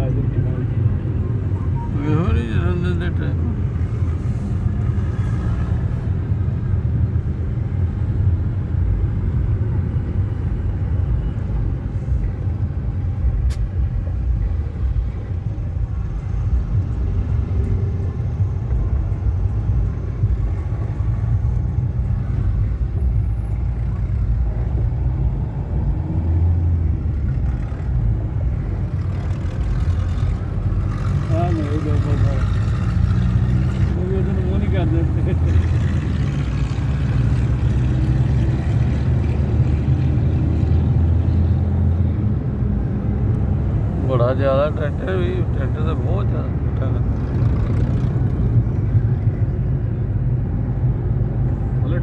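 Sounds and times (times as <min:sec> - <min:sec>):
highway traffic rumble: 0:00.0 - 0:52.0.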